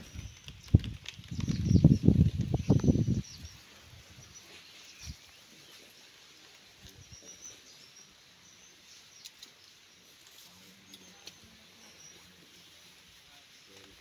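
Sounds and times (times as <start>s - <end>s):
high bird chirps: 0.0s - 6.0s, 6.8s - 12.9s.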